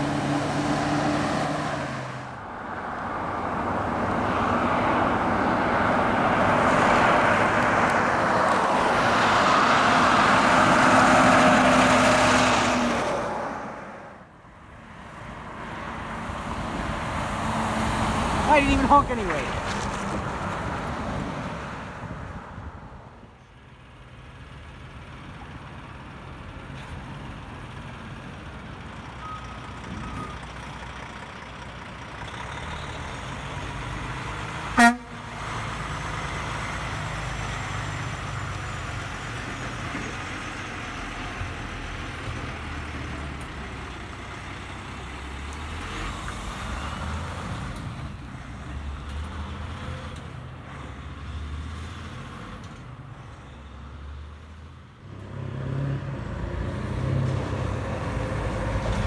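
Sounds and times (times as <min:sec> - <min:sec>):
heavy trucks driving past: 0:00.0 - 0:59.0.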